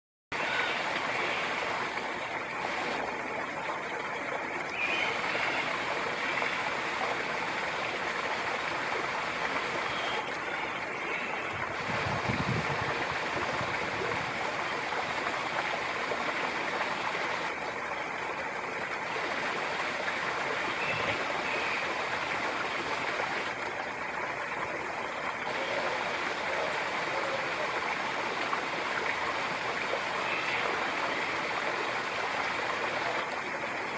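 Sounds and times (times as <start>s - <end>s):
running water: 0.3s - 33.9s.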